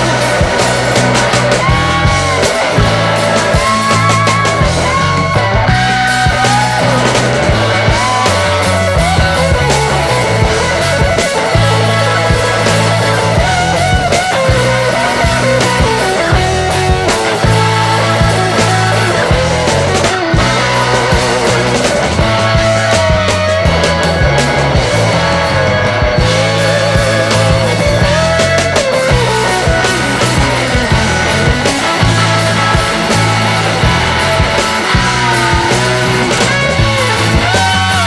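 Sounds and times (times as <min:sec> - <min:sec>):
bass line: 0:00.0 - 0:38.0
rock music: 0:00.0 - 0:38.0.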